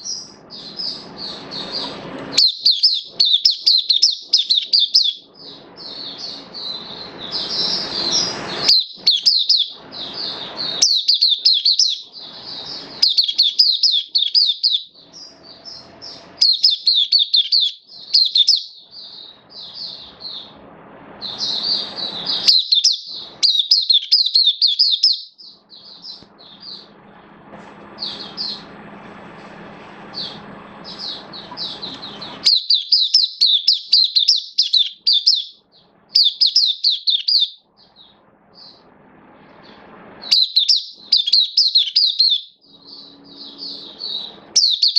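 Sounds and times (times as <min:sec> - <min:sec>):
bird high-pitched twittering song: 0:00.0 - 0:20.6, 0:21.2 - 0:27.0, 0:28.0 - 0:28.7, 0:30.2 - 0:38.9, 0:39.6 - 0:44.9.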